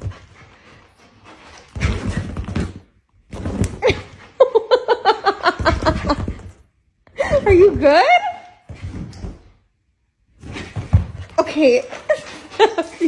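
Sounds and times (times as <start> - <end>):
dogs scrambling on leather couch: 0.0 - 4.5, 5.4 - 6.7, 7.3 - 9.6, 10.3 - 13.0.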